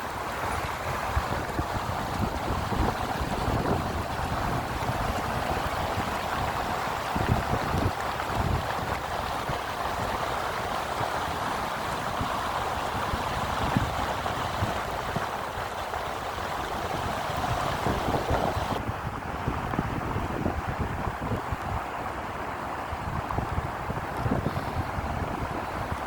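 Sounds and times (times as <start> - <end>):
floodwater rushing: 0.0 - 26.0
wind gusting on microphone: 0.0 - 26.0.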